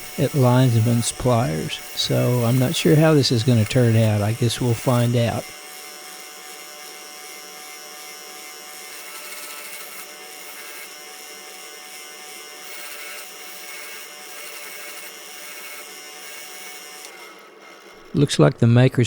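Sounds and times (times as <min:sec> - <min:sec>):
electric power tool buzzing: 0:00.0 - 0:18.6.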